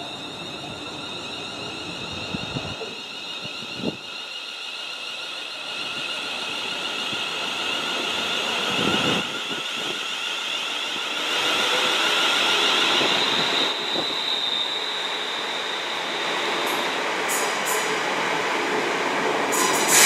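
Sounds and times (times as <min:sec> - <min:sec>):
train motor whine: 0:00.0 - 0:17.9.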